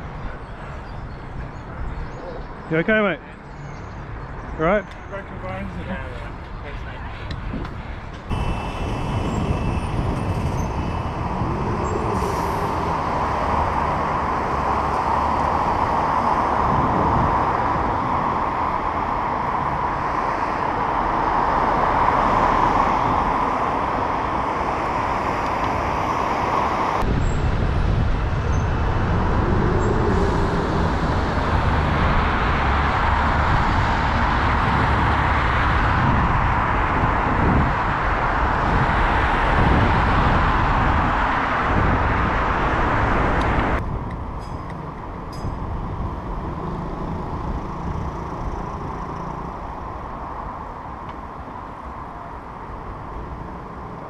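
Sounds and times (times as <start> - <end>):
road traffic noise: 0.0 - 54.0
wind rush: 7.2 - 54.0
cars passing close by: 8.0 - 54.0.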